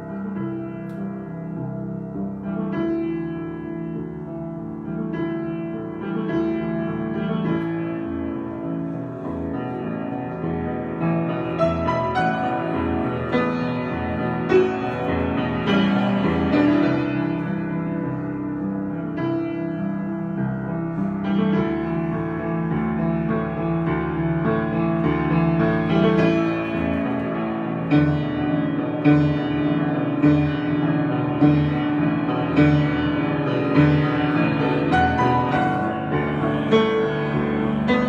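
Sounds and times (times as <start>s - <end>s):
improvised piano chords: 0.0s - 38.0s.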